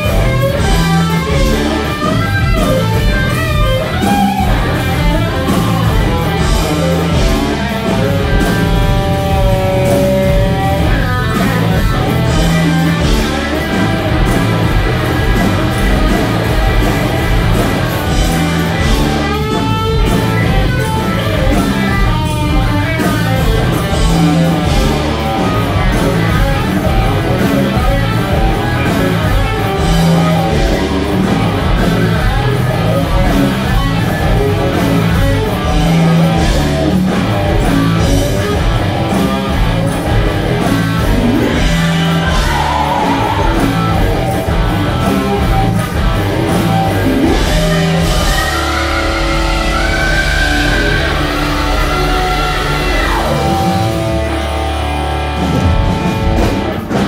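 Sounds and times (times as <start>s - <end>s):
bass guitar: 0.0s - 57.0s
drums: 0.0s - 57.0s
electric guitar solo: 0.0s - 57.0s.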